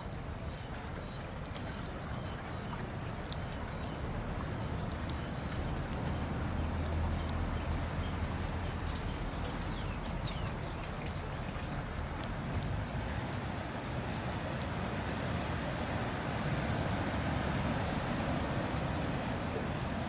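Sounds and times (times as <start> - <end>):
rain drops ticking: 0.0 - 20.0
steady rain: 0.0 - 20.0.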